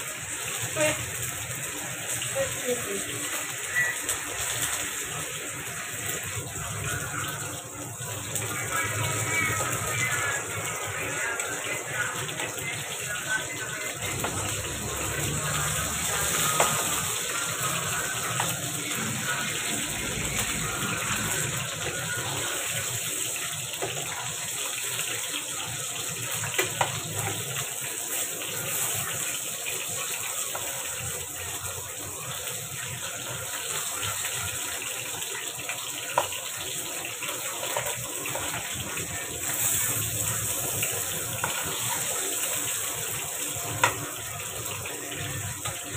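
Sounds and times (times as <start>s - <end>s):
food sizzling on stove: 0.0s - 45.9s.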